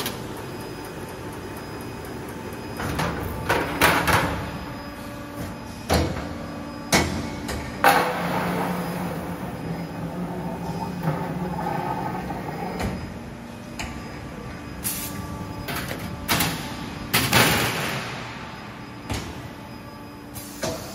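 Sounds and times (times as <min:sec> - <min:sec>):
plate rolling machine humming: 0:00.0 - 0:20.3.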